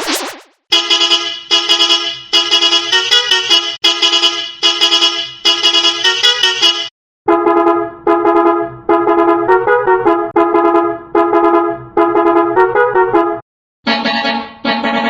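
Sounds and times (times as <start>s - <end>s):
brass-toned bus horn tune: 0.7s - 15.0s.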